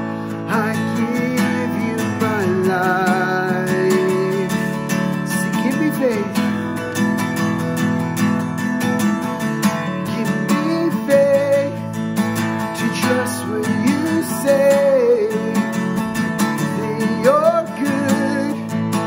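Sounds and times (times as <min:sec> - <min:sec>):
man singing: 0:00.0 - 0:07.2, 0:09.6 - 0:19.0
acoustic guitar strumming: 0:00.0 - 0:19.0.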